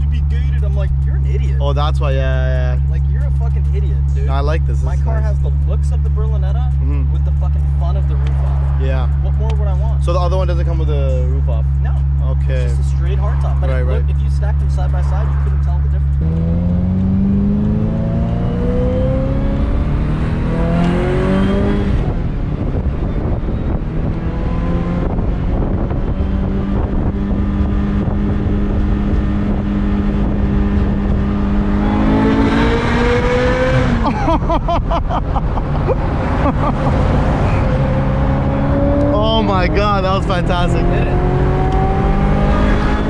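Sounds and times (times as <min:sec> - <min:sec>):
exhaust crackle: 0:00.0 - 0:43.0
sports car engine revving: 0:00.0 - 0:43.0.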